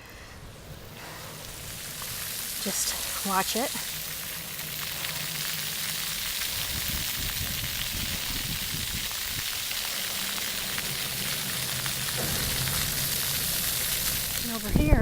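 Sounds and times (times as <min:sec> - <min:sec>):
water jets spraying on pavement: 0:00.0 - 0:15.0.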